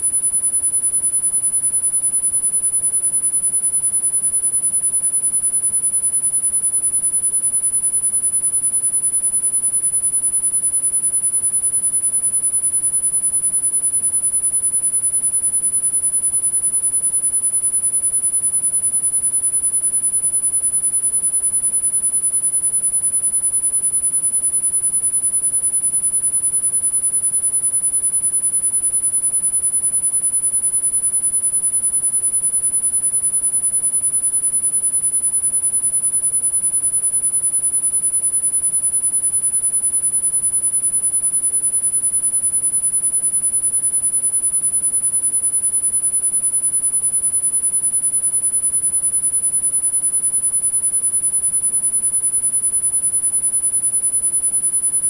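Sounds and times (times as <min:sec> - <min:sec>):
high-pitched sine tone: 0:00.0 - 0:55.0.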